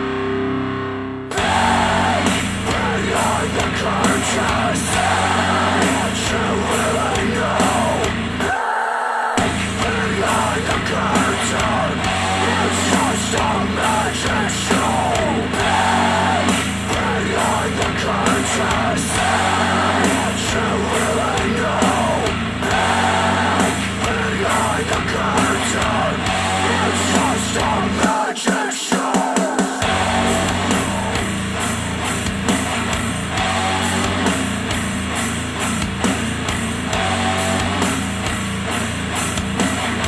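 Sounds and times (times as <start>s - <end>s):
band music with strong bass: 0.0s - 8.5s, 9.4s - 40.0s.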